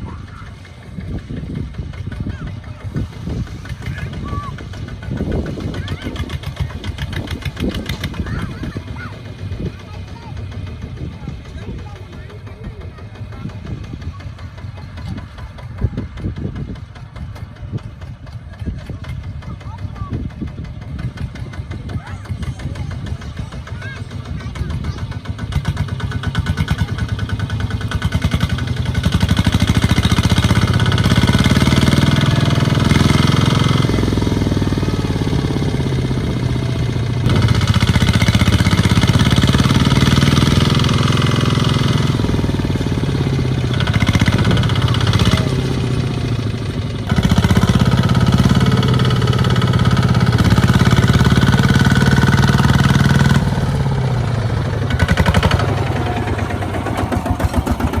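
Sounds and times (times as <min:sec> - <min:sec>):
tractor engine revving under load: 0:00.0 - 0:58.0.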